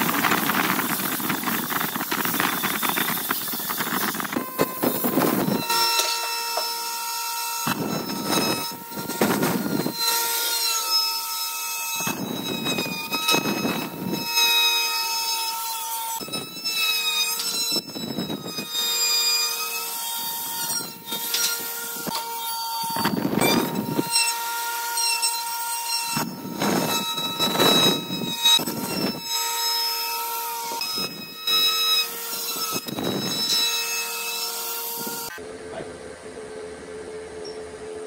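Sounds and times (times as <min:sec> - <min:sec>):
coarse wood cutting noise: 0:00.0 - 0:35.9
wood router high whine: 0:00.0 - 0:38.0.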